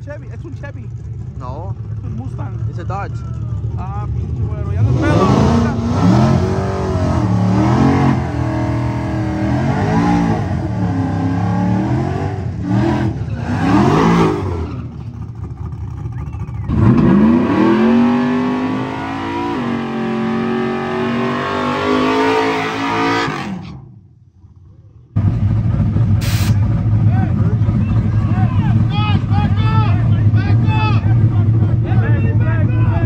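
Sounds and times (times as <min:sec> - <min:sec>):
car engines revving: 0:00.0 - 0:24.1, 0:25.0 - 0:33.0
car burnout: 0:00.0 - 0:33.0.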